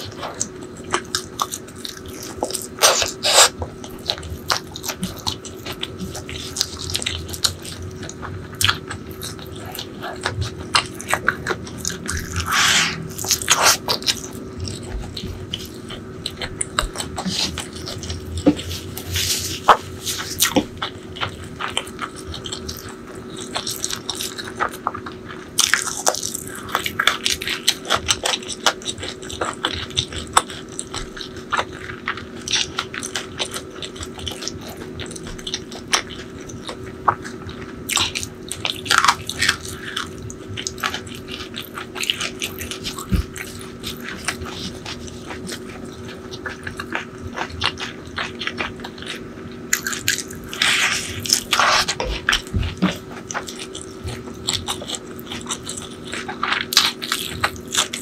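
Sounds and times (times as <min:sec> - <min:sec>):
chewing and crunching: 0:00.0 - 0:58.0
faint steady hum: 0:00.0 - 0:58.0.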